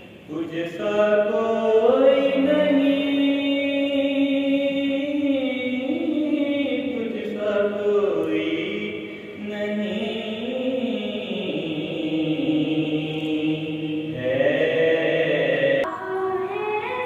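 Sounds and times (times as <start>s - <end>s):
man chanting: 0.3s - 15.9s.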